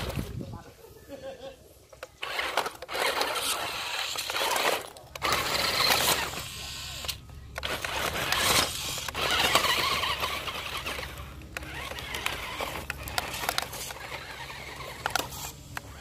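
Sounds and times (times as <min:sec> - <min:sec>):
toy car motor whirring: 0:01.9 - 0:16.0
stones scraping and clicking: 0:02.0 - 0:16.0.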